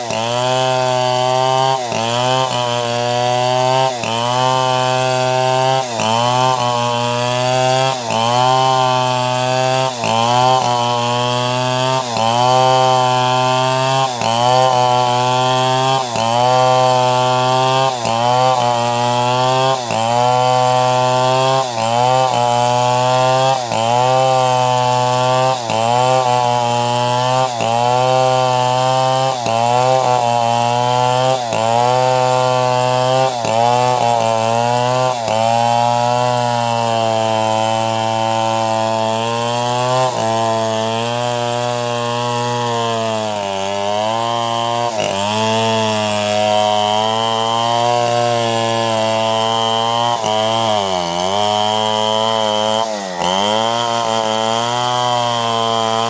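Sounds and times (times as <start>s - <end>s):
chainsaw sawing timber: 0.0s - 56.0s.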